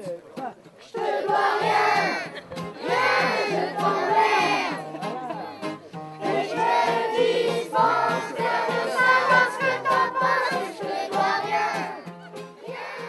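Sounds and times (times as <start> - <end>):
children singing a chorus: 0.9 - 4.8, 6.2 - 13.0.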